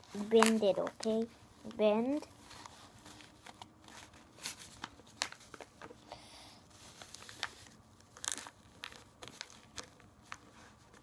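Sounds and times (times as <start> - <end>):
paper crinkling and folding: 0.0 - 6.1, 6.7 - 11.0.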